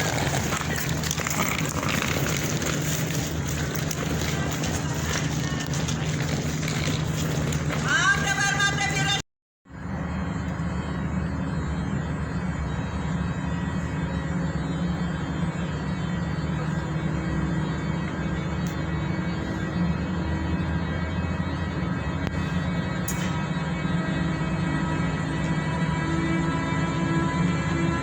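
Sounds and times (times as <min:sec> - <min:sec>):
electric locomotive humming: 0:00.0 - 0:28.0.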